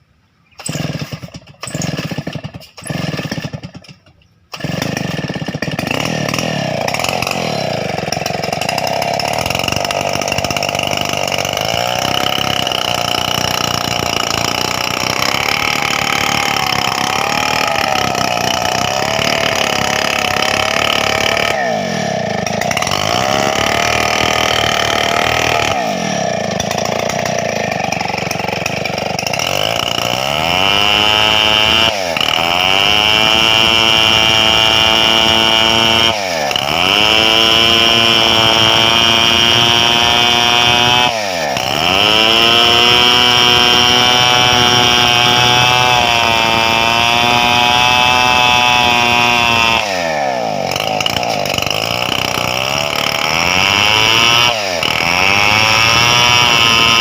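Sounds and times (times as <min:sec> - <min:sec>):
chainsaw sawing through board: 0:00.6 - 0:57.0.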